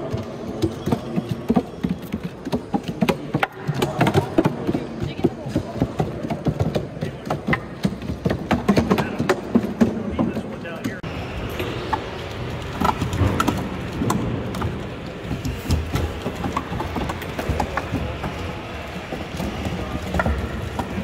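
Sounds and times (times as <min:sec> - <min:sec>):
robot feet tapping and knocking: 0:00.0 - 0:11.1, 0:12.7 - 0:21.0
murmur of crowded hall: 0:00.0 - 0:21.0.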